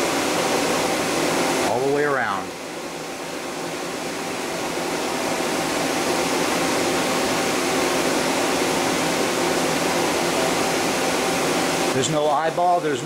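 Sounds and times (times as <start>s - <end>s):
shop machinery hum and whoosh: 0.0s - 13.0s.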